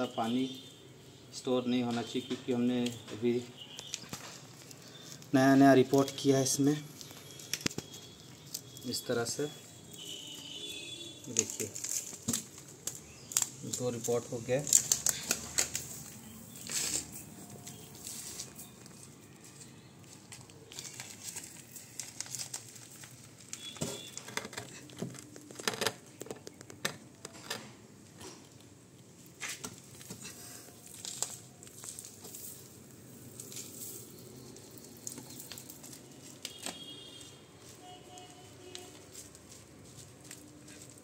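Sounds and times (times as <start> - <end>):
plastic cups crinkling and clicking: 2.0 - 41.0.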